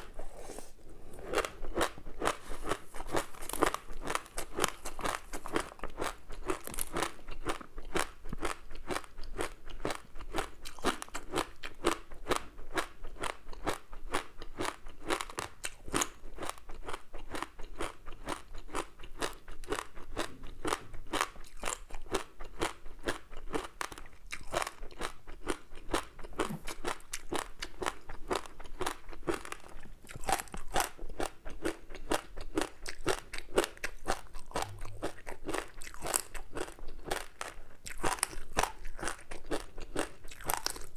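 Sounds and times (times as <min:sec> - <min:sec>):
crunchy snack chewing: 0:00.0 - 0:40.9.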